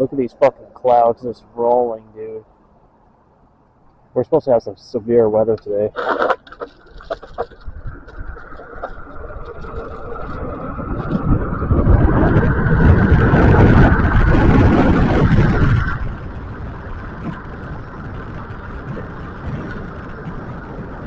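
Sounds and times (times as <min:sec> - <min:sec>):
rushing wind and road noise: 0:00.0 - 0:21.0.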